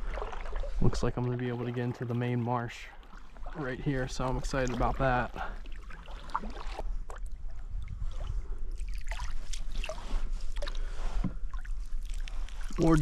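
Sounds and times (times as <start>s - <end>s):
kayak paddle strokes in water: 0.0s - 13.0s
water splashing and dripping: 0.0s - 13.0s.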